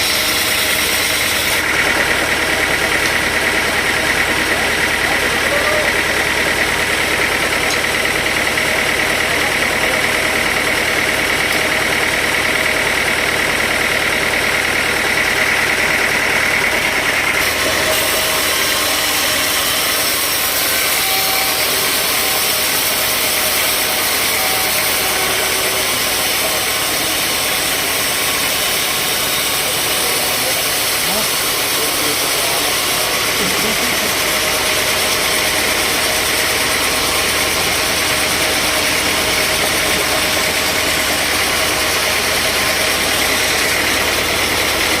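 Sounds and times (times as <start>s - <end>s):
high machine whine: 0.0s - 45.0s
sawmill machinery running: 0.0s - 45.0s.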